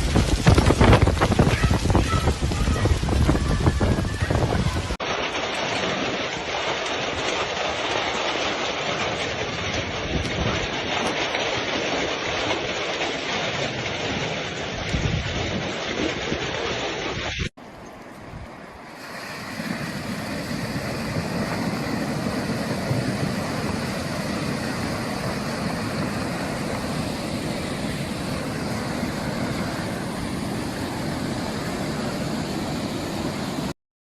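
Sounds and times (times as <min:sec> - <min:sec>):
rushing water from heavy downpour: 0:00.0 - 0:17.5, 0:18.7 - 0:33.8.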